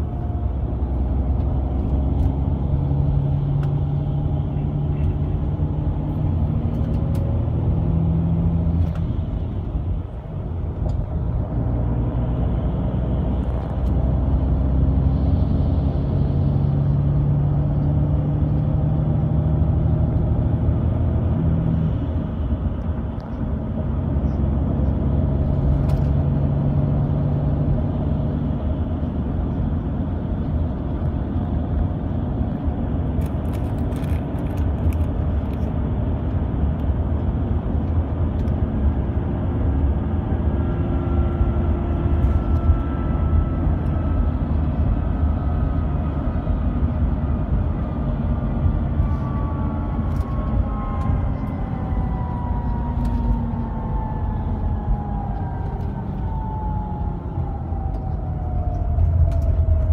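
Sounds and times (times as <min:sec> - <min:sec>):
bus engine drone: 0:00.0 - 0:59.9
tyre and road noise: 0:00.0 - 0:59.9.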